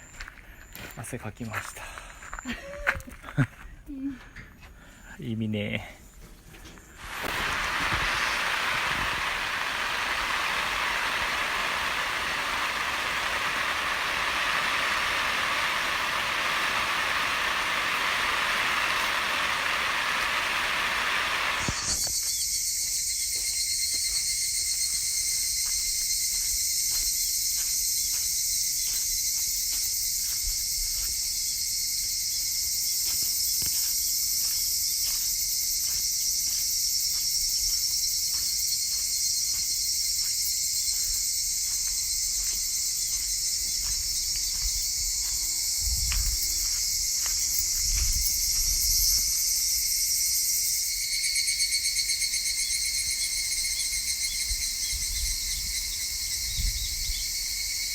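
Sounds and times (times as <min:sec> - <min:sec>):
insects chorus: 0:00.0 - 0:03.6, 0:04.5 - 0:57.9.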